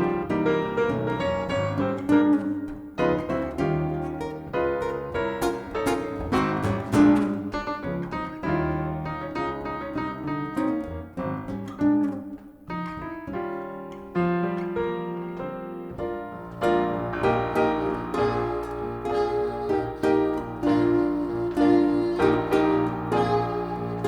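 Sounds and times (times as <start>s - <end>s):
jazz piano: 0.0s - 24.0s
plucked acoustic guitar: 0.0s - 24.0s.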